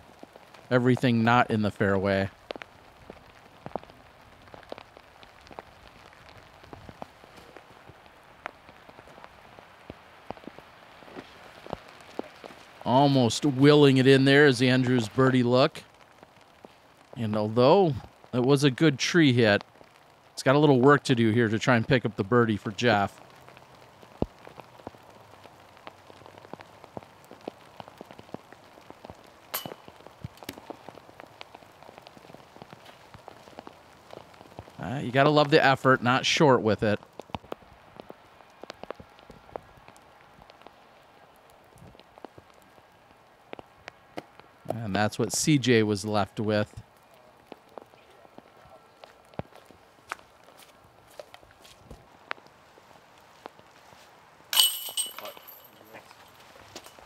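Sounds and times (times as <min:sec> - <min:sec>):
raindrops tapping close by: 0:00.0 - 0:57.0
steady rain falling: 0:00.0 - 0:57.0.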